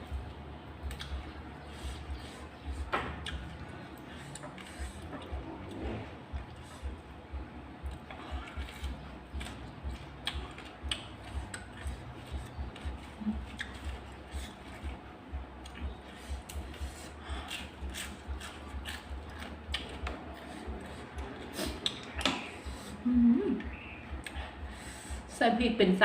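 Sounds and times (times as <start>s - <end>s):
person chewing: 0.0s - 24.8s.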